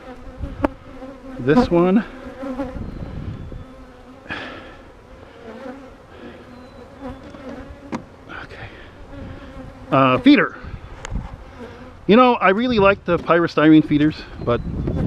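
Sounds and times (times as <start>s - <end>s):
bees buzzing: 0.0s - 12.8s.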